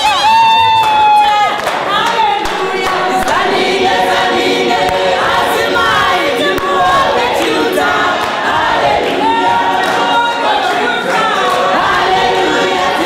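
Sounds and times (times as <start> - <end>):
choir singing: 1.8 - 13.0.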